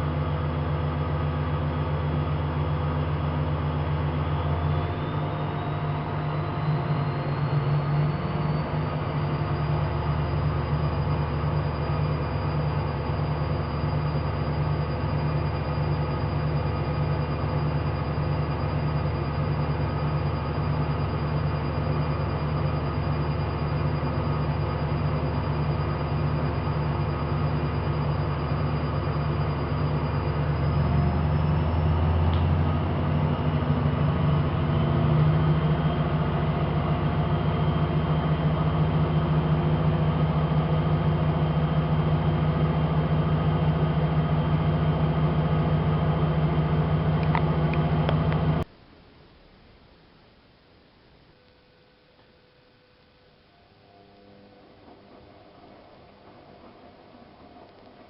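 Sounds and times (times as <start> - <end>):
washing machine motor humming: 0.0 - 48.7, 53.8 - 58.0.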